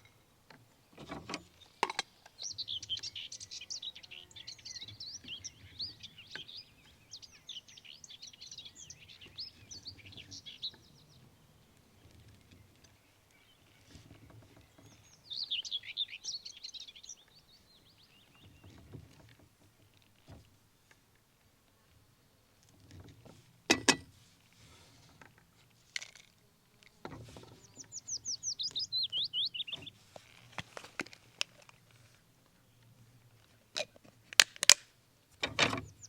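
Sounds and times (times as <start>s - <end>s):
songbird singing: 0.0s - 24.1s, 25.2s - 36.0s.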